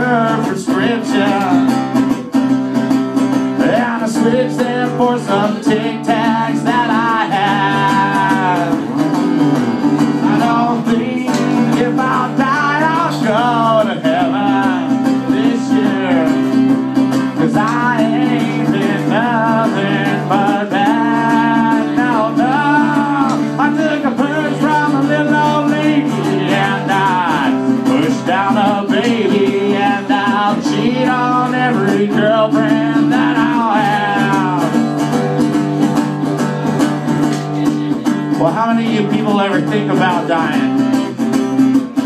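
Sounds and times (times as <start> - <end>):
man singing: 0.0 - 2.6, 3.2 - 35.9, 36.7 - 42.0
acoustic guitar: 0.0 - 42.0.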